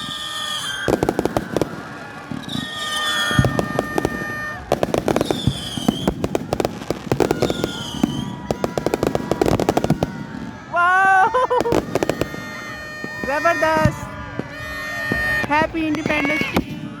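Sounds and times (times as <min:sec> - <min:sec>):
fireworks crackling bangs: 0:00.0 - 0:17.0.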